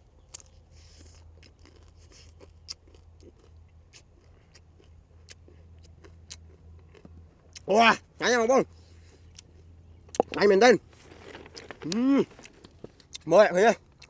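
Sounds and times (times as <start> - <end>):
chewing with small crunches: 0.0 - 14.0.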